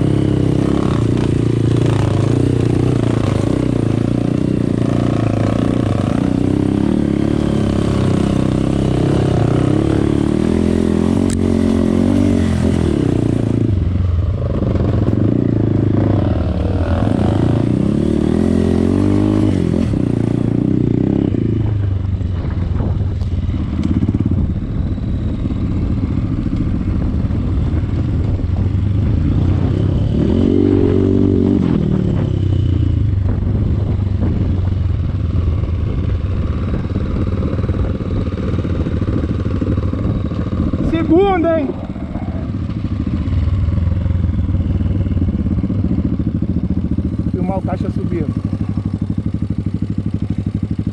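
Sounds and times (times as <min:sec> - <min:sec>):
low engine drone: 0:00.0 - 0:50.9
motorcycle engines revving: 0:00.0 - 0:50.9.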